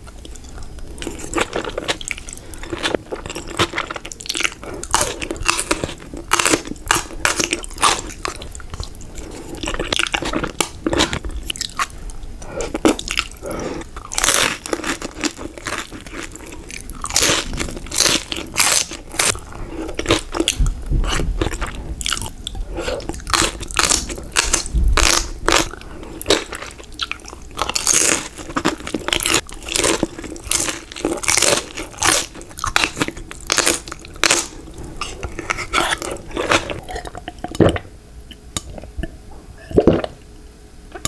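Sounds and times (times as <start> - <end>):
crunchy chewing: 0.1 - 37.8.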